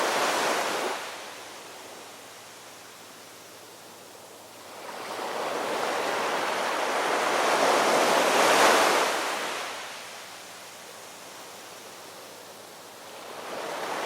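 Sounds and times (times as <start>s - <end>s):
surf wash: 0.0s - 14.0s.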